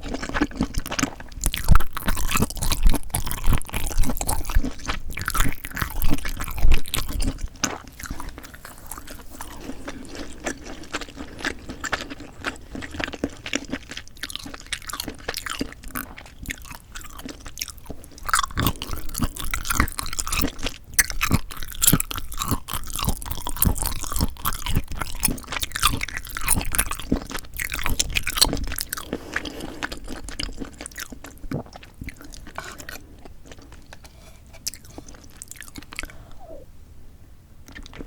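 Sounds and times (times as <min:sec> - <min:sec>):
wet chewing with crunches: 0:00.0 - 0:36.6, 0:37.6 - 0:38.0.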